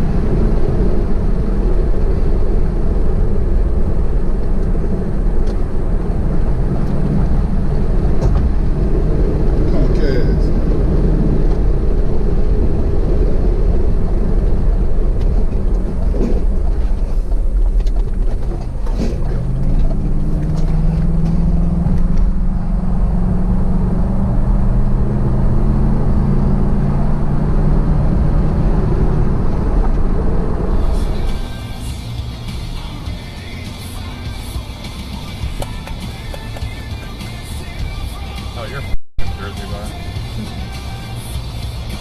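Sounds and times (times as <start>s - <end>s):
car engine and road noise: 0.0s - 42.0s
engine drone: 0.0s - 42.0s.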